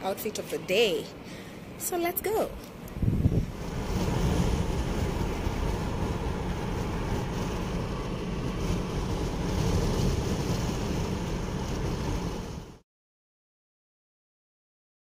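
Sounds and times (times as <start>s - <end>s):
car cabin road and engine noise: 0.0s - 12.8s.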